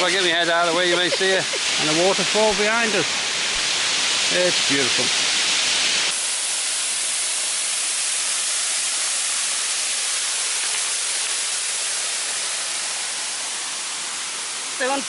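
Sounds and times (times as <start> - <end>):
waterfall rushing onto rock: 0.0 - 15.0.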